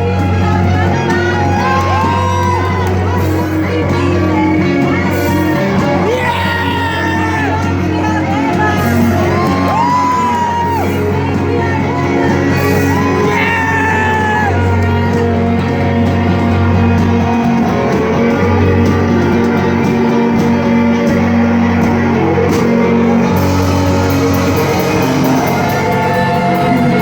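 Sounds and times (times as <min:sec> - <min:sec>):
audience shouting and whooping: 0:00.0 - 0:27.0
live pop-rock band playing: 0:00.0 - 0:27.0
steady bass: 0:00.0 - 0:27.0.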